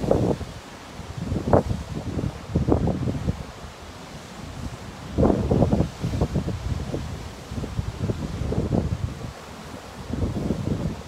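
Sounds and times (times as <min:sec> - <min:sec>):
storm wind buffeting microphone: 0:00.0 - 0:03.6, 0:04.5 - 0:11.0.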